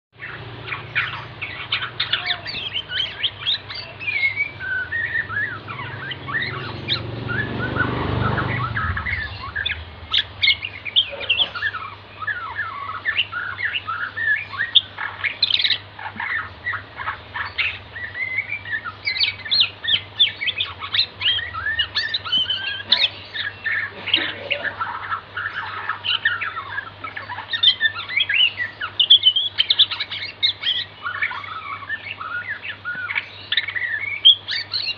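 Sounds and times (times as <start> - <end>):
bird chirps and whistles: 0.2 - 34.9
steady low hum: 0.2 - 34.9.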